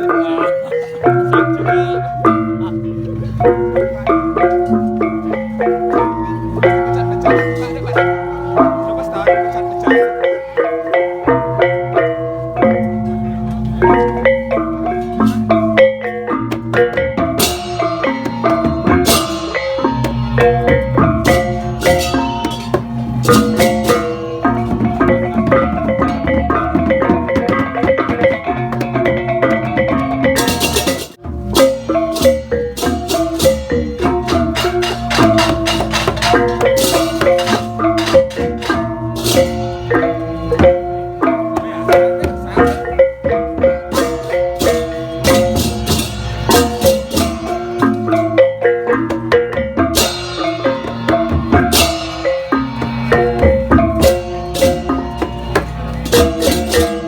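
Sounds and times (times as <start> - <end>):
drums and percussion: 0.0 - 57.0
metallophone notes: 0.0 - 57.0.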